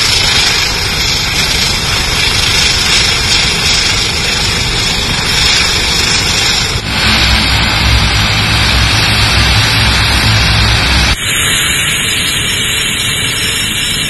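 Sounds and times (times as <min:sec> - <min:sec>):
turboprop engines running: 0:00.0 - 0:14.0.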